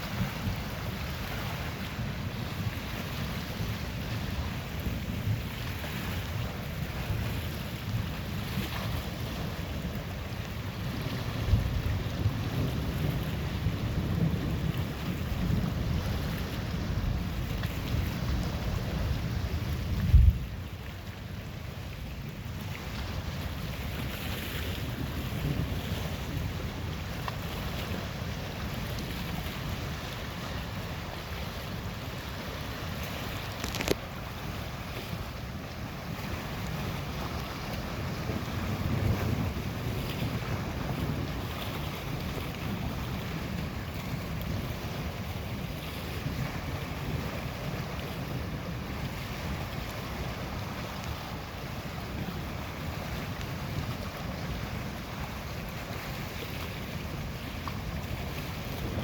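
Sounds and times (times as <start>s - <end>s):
lake waves washing: 0.0s - 59.0s
wind noise: 0.0s - 59.0s.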